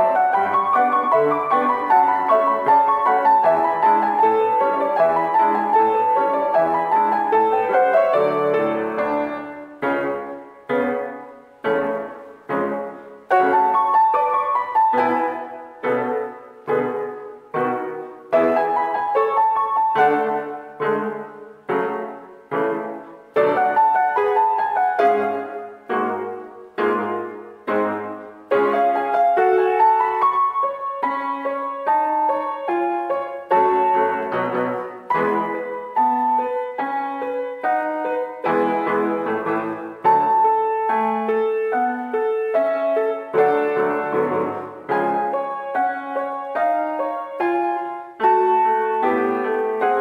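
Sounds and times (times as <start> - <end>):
piano polka four hands: 0.0 - 50.0.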